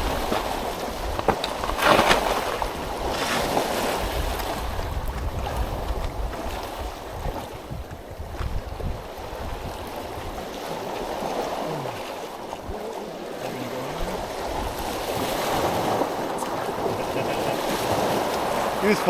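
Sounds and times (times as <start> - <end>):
sea water splashing over rocks: 0.0 - 19.0.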